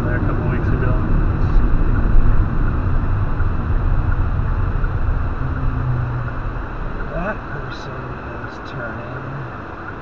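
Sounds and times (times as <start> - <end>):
car road and engine noise: 0.0 - 10.0
low steady hum: 0.0 - 10.0.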